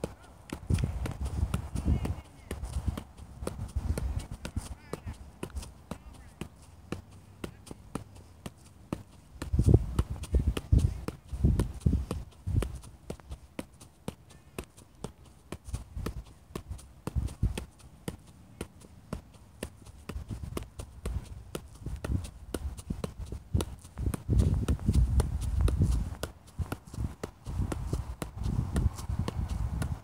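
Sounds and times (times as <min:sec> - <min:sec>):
foot tapping soccer ball: 0:00.0 - 0:30.0.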